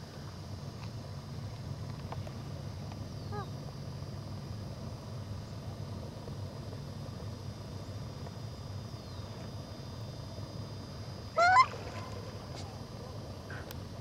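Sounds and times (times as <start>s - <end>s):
faint thin whine: 0.0s - 14.0s.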